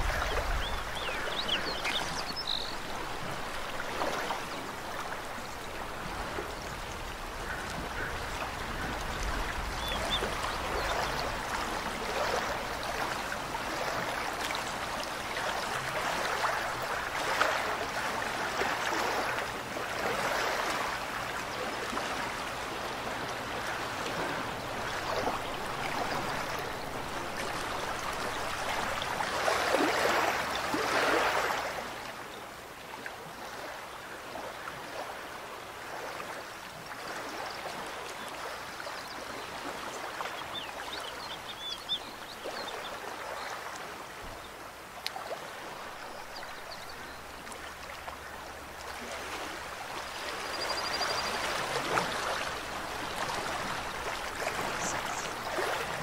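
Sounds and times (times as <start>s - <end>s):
stream rushing water: 0.0s - 56.0s.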